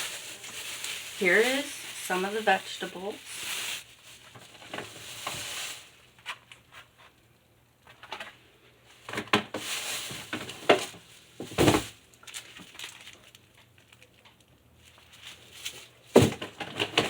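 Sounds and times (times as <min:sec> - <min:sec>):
rustling of food packages: 0:00.0 - 0:07.2, 0:07.9 - 0:17.0.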